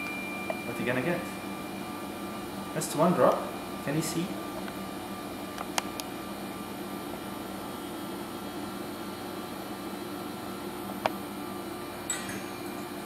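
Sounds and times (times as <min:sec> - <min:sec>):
low mechanical room hum: 0:00.0 - 0:13.0.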